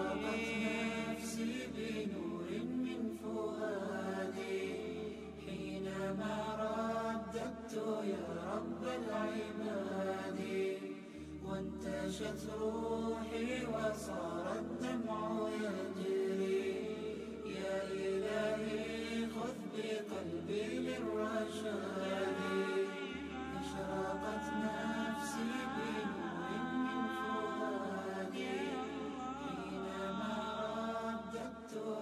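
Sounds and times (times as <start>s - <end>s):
voices singing long held notes: 0.0s - 32.0s.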